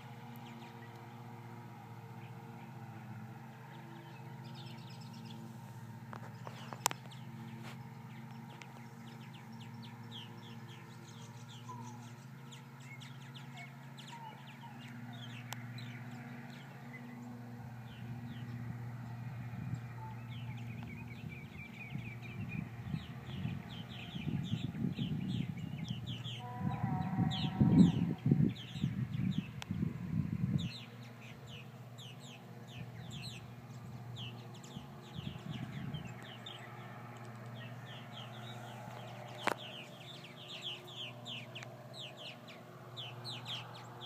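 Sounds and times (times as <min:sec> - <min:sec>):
birds chirping in a flock: 0:00.0 - 0:44.0
steady low hum: 0:00.0 - 0:44.0.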